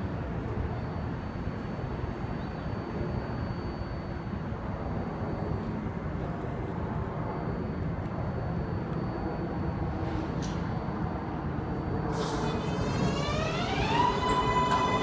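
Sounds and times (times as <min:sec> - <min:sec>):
subway train low rumble: 0:00.0 - 0:15.0.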